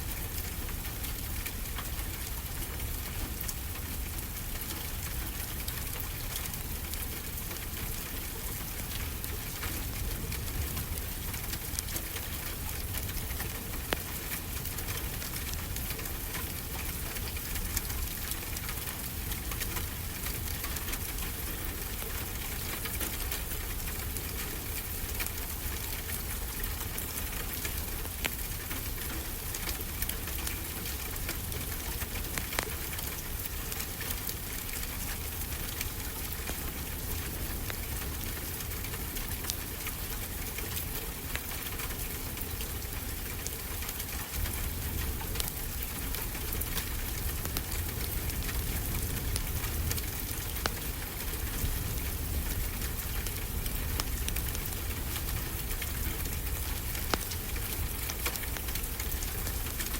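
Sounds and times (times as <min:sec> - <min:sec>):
wood fire crackling and popping: 0:03.4 - 0:59.9.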